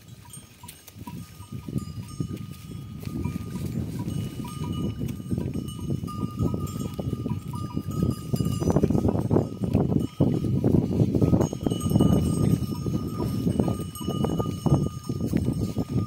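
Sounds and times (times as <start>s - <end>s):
bells ringing thinly: 0.0s - 16.0s
goat hooves shuffling and knocking: 0.0s - 16.0s.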